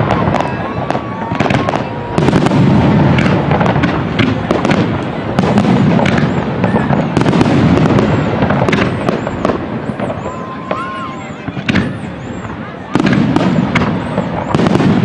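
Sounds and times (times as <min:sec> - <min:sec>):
firework whistles: 0:00.0 - 0:15.0
fireworks bursts and crackling: 0:00.0 - 0:15.0.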